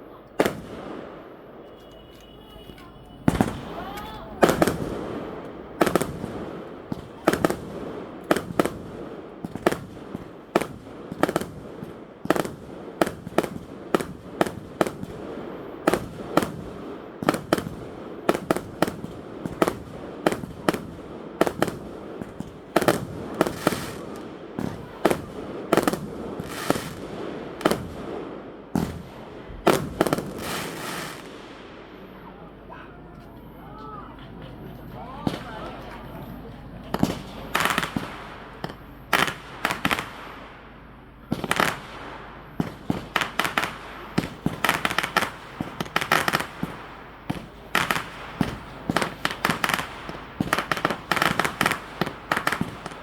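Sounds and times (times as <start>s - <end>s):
fireworks bursting: 0.0s - 53.0s
rolling echo of bangs: 3.3s - 32.0s, 36.9s - 53.0s.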